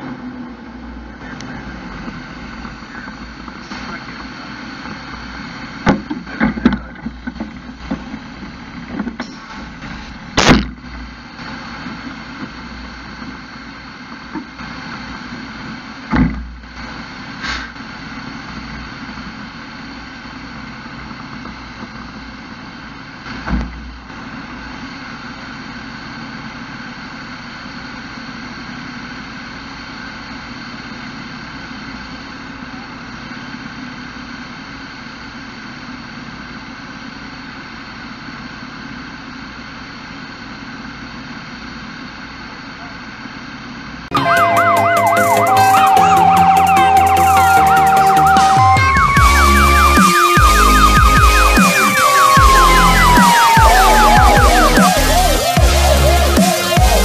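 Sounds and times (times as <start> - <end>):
fire engine idling: 0.0 - 57.0.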